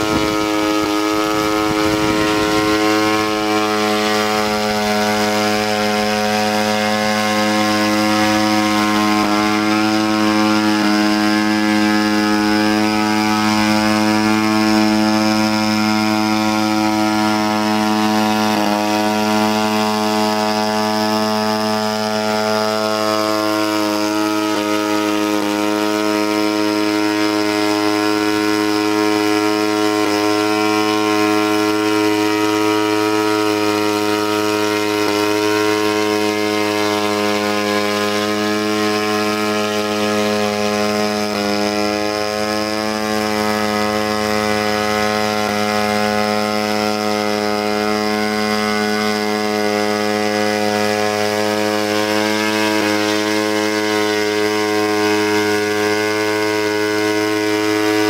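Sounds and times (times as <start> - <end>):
rotorcraft engine and rotor drone: 0.0 - 58.0.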